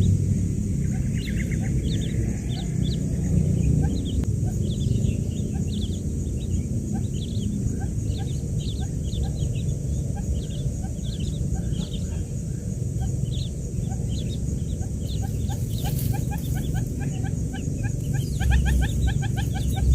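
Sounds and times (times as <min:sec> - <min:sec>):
chicks peeping: 0:00.0 - 0:19.9.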